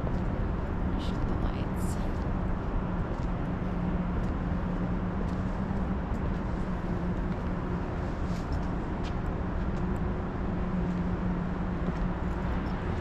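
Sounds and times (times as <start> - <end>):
city background rumble: 0.0 - 13.0
constant low hum: 0.0 - 13.0.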